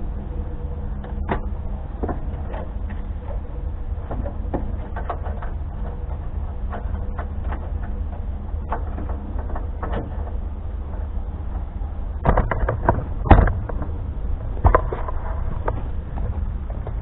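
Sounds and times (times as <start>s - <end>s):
wind rumbling on microphone: 0.0s - 17.0s
knocks and rattles: 1.0s - 17.0s.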